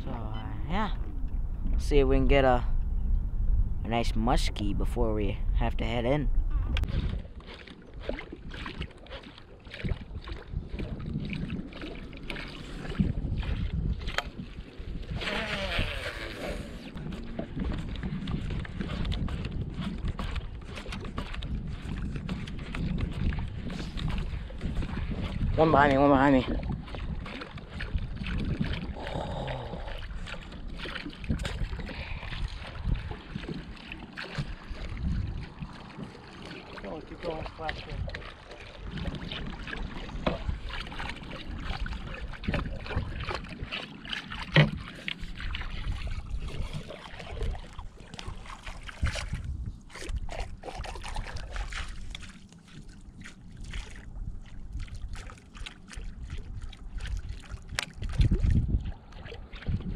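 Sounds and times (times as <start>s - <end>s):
low wind rumble on microphone: 0.0s - 43.8s, 44.4s - 52.4s, 53.1s - 59.9s
water lapping against boat hull: 0.0s - 59.9s
lure splashing through water: 6.8s - 59.9s.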